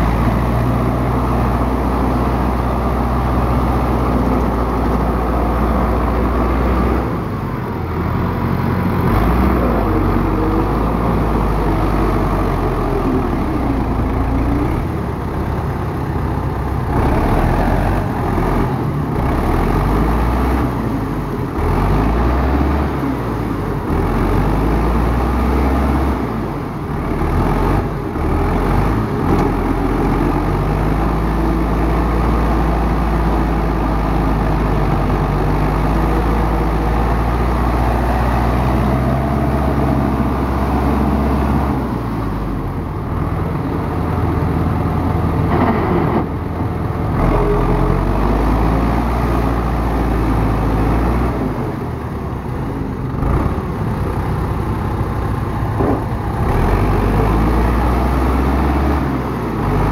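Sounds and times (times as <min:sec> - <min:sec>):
off-road vehicle engine revving: 0:00.0 - 0:15.1, 0:16.8 - 0:54.8, 0:55.4 - 0:59.9.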